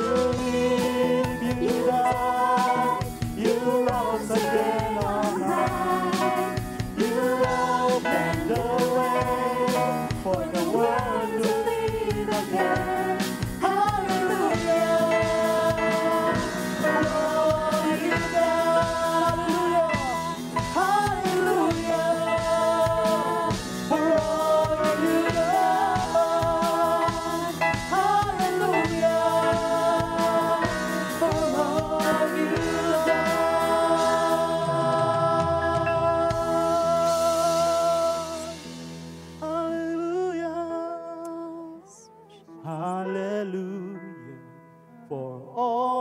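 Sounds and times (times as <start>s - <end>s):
woman singing lead: 0.0s - 38.7s, 39.4s - 44.5s
sustained keyboard chords: 0.0s - 39.3s
worship band playing: 0.0s - 42.0s.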